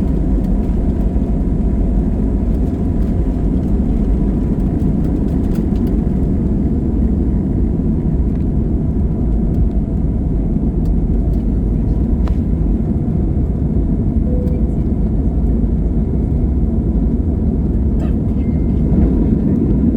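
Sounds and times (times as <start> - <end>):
jet engine rumble in cabin: 0.0 - 19.9.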